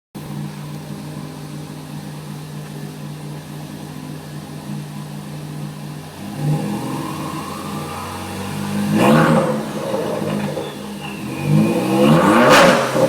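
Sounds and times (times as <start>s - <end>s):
car exhaust idling and revving: 0.2s - 13.0s.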